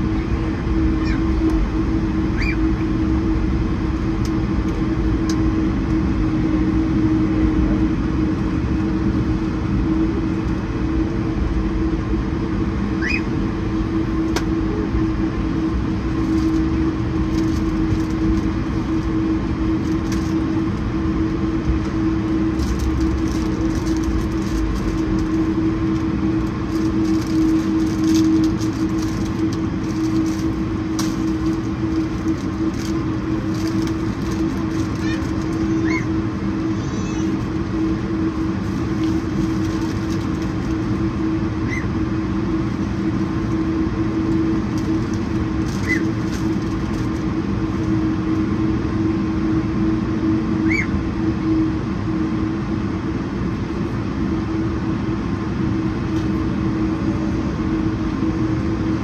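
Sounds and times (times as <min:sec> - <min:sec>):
aircraft engines humming: 0:00.0 - 0:59.0
cabin air noise: 0:00.0 - 0:59.0.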